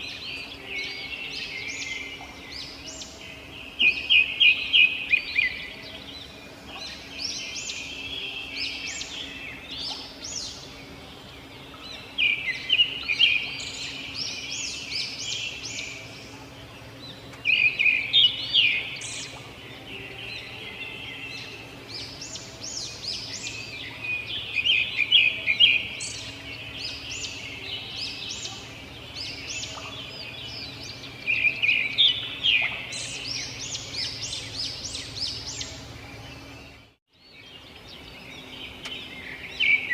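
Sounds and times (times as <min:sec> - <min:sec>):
faint steady hum: 0:00.0 - 0:39.9
robins singing and chirping: 0:00.0 - 0:39.9.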